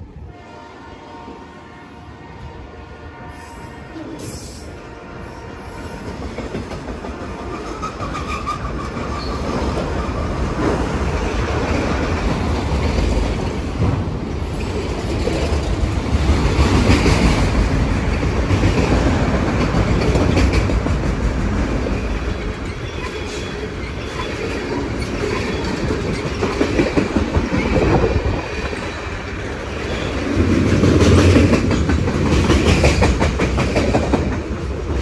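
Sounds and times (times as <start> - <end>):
freight train rumbling past: 0.0 - 35.0
wheels clacking over rail joints: 6.2 - 35.0.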